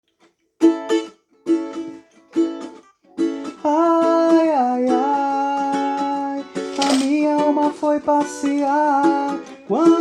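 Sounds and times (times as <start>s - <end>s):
ukulele strumming: 0.6s - 10.0s.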